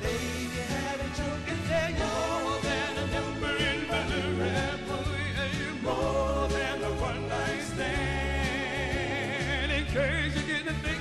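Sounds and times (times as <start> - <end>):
soul band with bass line: 0.0 - 11.0
vocal group singing with vibrato: 0.0 - 11.0.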